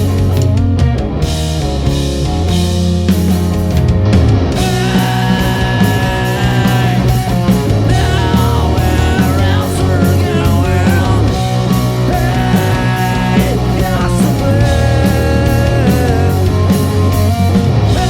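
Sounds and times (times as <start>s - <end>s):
bass: 0.0s - 18.0s
drums keeping a beat: 0.0s - 18.0s
electric guitars: 0.0s - 18.0s
lead guitar line bending: 0.0s - 18.0s.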